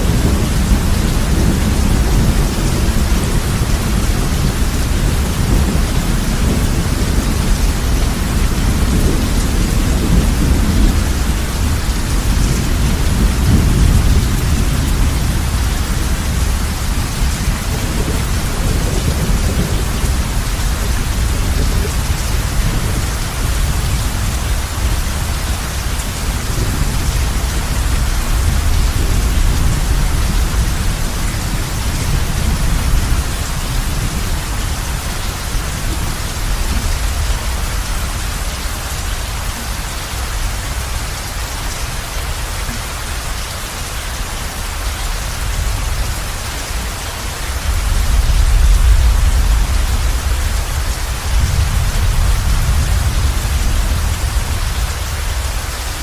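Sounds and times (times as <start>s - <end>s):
distant thunder rumbling: 0.0s - 39.2s, 47.5s - 55.5s
heavy rain on a roof: 0.0s - 56.0s.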